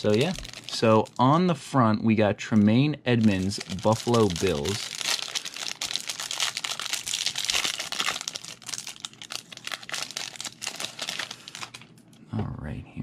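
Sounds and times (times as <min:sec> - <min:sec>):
plastic wrapper crinkling: 0:00.0 - 0:01.2, 0:02.6 - 0:12.2.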